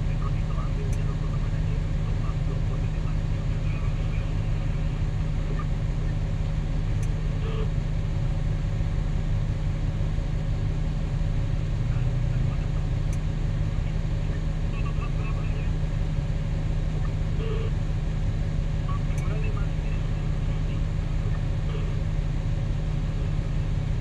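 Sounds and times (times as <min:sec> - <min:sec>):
diesel engine drone: 0:00.0 - 0:24.0.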